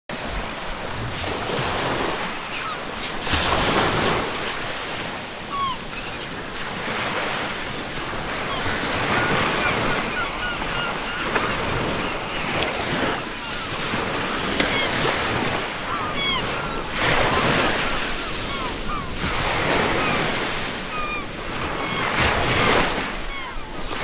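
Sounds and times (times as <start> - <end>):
ocean surf breaking: 0.1 - 24.0
seagulls crying: 1.8 - 3.9, 4.8 - 24.0.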